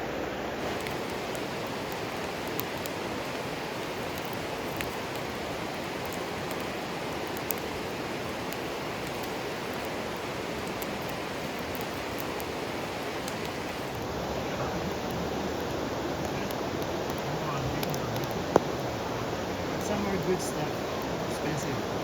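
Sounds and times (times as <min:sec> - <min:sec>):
river water flowing: 0:00.0 - 0:22.0
light ticks and crackles: 0:00.6 - 0:22.0.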